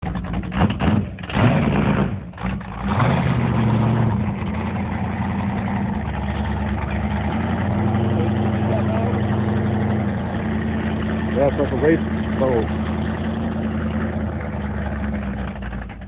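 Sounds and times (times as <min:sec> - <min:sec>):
boat engine revving and idling: 0:00.0 - 0:16.0.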